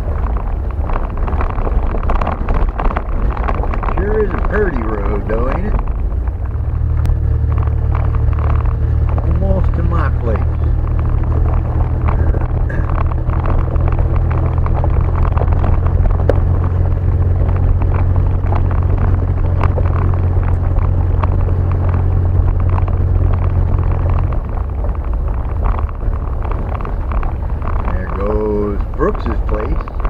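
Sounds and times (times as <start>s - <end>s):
rattles and knocks: 0.0s - 30.0s
vehicle engine and road rumble: 0.0s - 30.0s.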